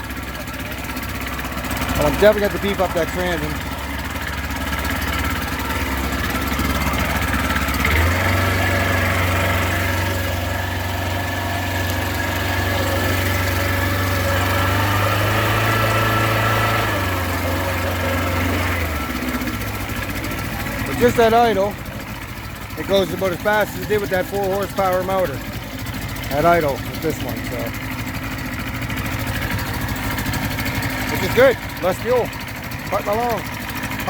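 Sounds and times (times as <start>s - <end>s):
outboard motor idling: 0.0s - 34.0s.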